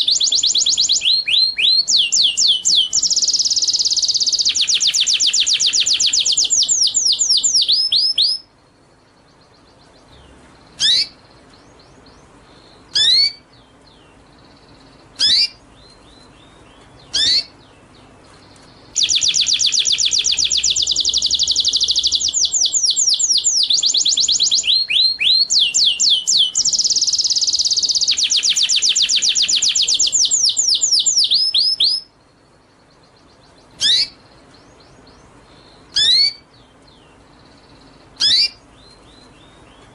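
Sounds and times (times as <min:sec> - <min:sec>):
sharp high bird calls: 0:00.0 - 0:08.6, 0:09.3 - 0:17.7, 0:18.5 - 0:32.2, 0:32.8 - 0:39.9
songbird trilling: 0:00.0 - 0:39.9.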